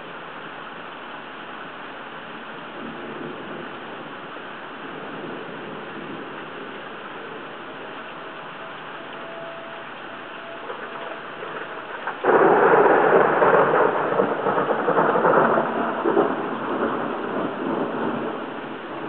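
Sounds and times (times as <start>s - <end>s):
wind and rain buffeting camera: 0.0s - 19.0s.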